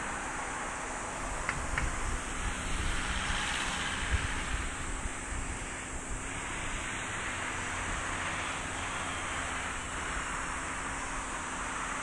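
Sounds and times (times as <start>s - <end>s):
distant jet engines roaring: 0.0s - 12.0s.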